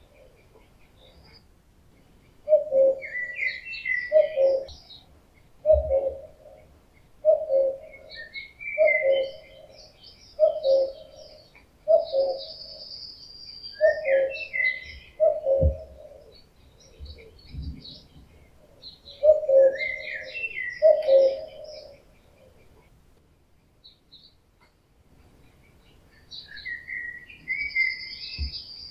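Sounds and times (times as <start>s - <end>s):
songbirds singing: 0.0s - 28.9s
cuckoo calling: 2.4s - 23.0s, 25.2s - 28.9s.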